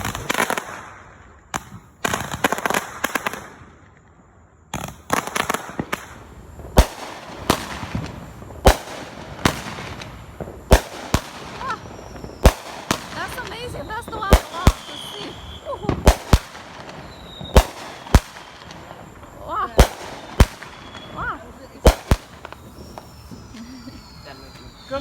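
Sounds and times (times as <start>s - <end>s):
fireworks crackling: 0.0s - 3.8s, 4.8s - 25.0s
fireworks sharp bangs: 0.0s - 3.9s, 4.7s - 25.0s.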